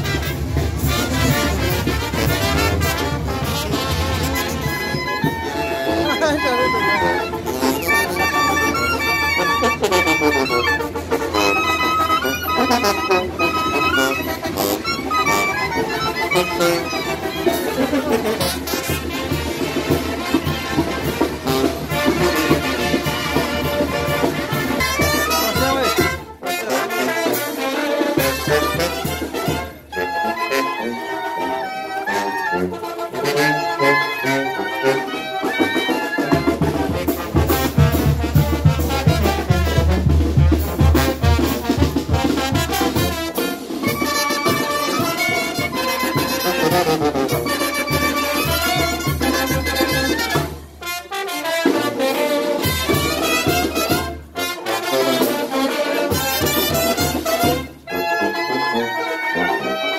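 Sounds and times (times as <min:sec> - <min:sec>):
brass band playing festive tune: 0:00.0 - 0:59.9.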